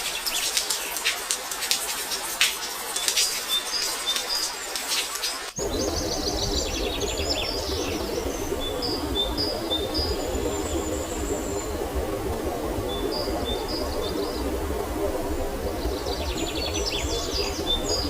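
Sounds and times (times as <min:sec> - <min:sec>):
birds chirping and trilling: 0:00.0 - 0:18.0
steady rain: 0:00.0 - 0:18.0.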